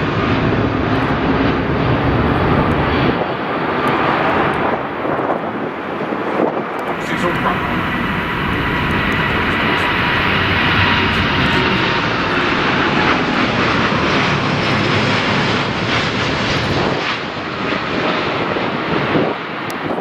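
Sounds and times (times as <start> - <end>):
jet airliner engines passing: 0.0 - 20.0.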